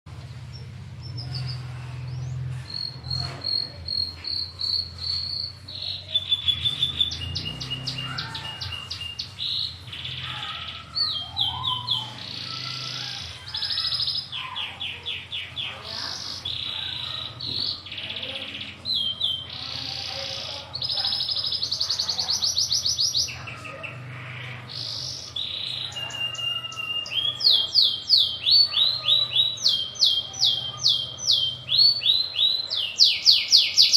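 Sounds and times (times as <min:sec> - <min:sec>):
canary singing: 0:00.3 - 0:33.9.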